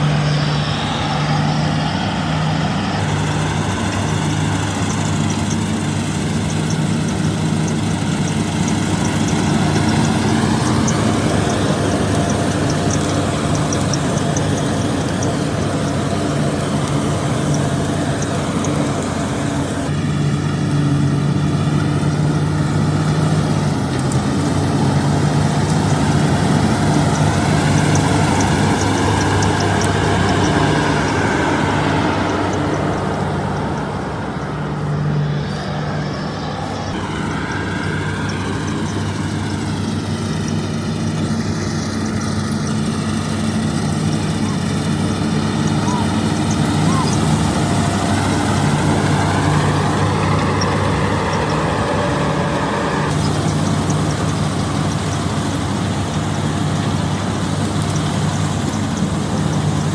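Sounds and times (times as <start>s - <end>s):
diesel engine drone: 0.0s - 59.9s
machinery clatter: 0.0s - 59.9s.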